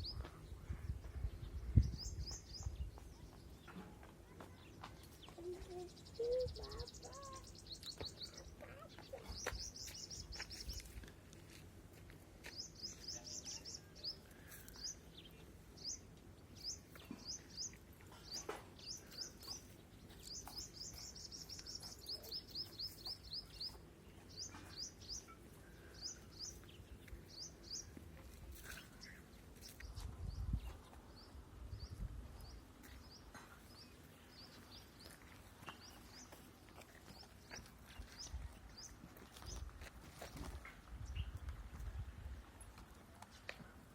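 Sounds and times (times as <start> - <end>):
small songbird chirping: 0.0 - 11.1, 12.5 - 40.4.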